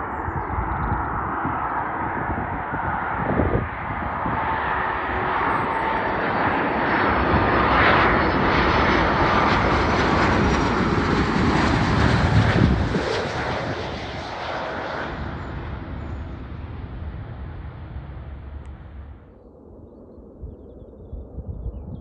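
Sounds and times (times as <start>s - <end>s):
jet airliner rumble: 0.0s - 22.0s.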